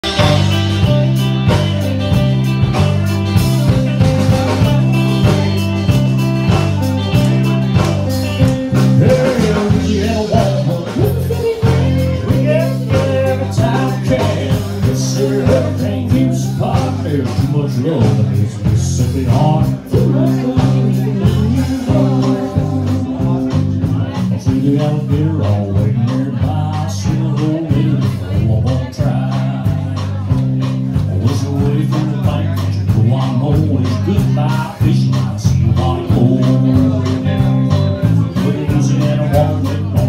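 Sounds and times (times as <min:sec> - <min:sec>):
country band playing: 0:00.0 - 0:40.0
sliding melodic lead: 0:00.0 - 0:40.0.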